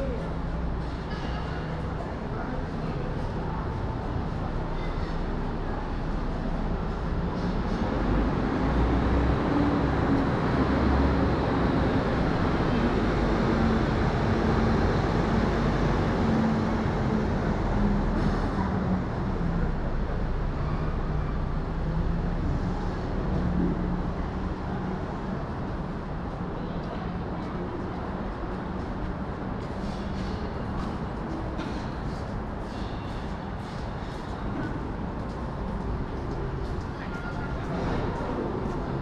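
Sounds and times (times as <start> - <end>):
city street traffic: 0.0 - 39.0.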